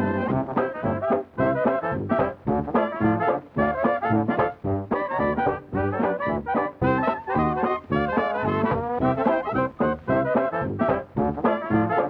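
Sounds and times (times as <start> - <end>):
brass-led instrumental music: 0.0 - 12.0.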